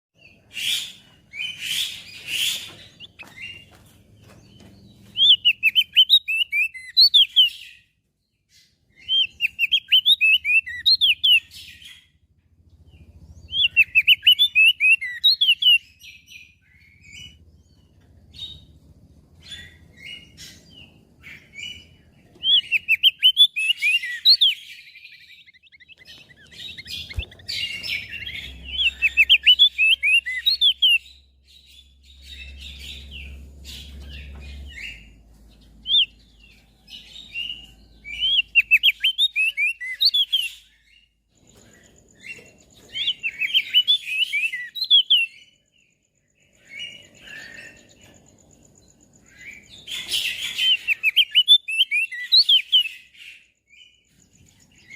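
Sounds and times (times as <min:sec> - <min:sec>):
bird twittering song: 0:00.2 - 0:54.9.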